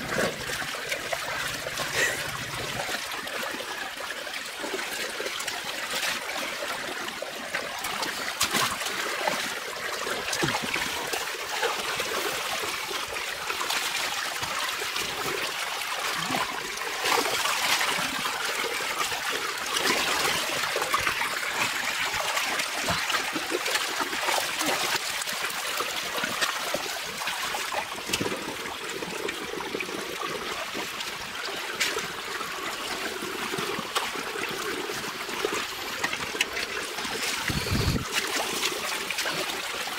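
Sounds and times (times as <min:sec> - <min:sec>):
muddy water trickling: 0:00.0 - 0:39.9.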